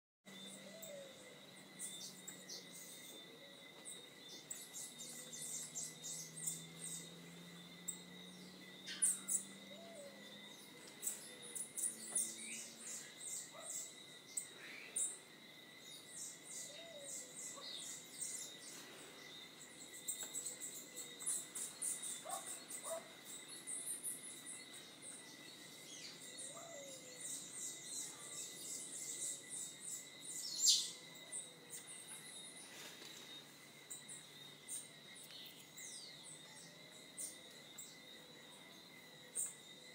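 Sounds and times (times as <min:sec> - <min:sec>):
birds chirping: 0:00.3 - 0:39.9
high insect-like whine: 0:00.3 - 0:39.9.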